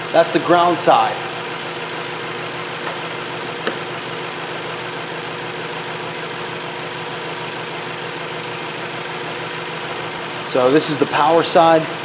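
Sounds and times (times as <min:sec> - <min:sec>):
misfiring car engine idling: 0:00.0 - 0:12.0.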